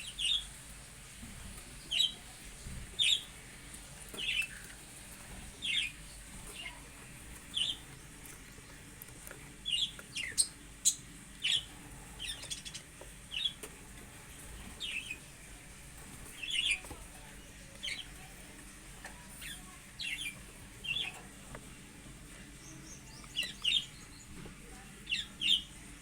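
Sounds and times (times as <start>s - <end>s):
budgies chirping: 0.0s - 25.8s.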